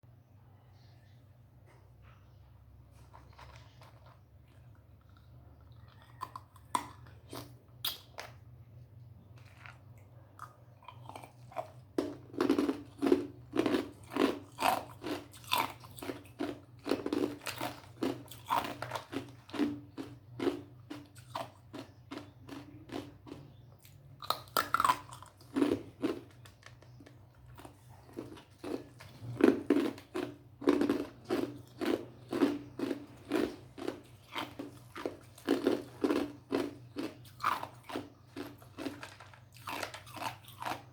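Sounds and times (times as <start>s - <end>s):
person chewing ice crunches: 2.9s - 8.4s, 9.3s - 40.9s.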